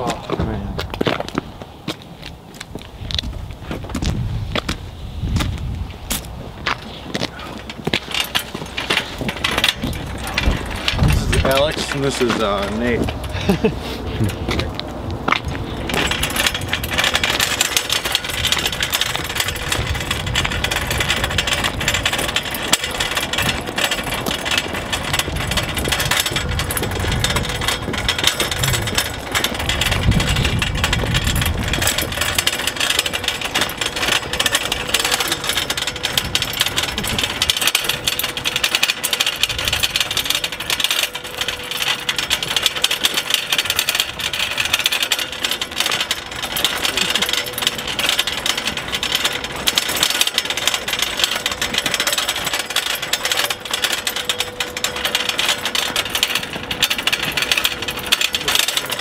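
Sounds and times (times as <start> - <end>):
metal cart rattling: 5.6 - 59.0.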